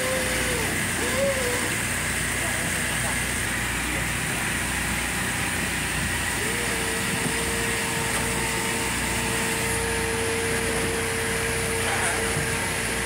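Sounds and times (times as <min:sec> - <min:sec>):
machinery droning: 0:00.0 - 0:13.0
steady whine: 0:00.0 - 0:13.0.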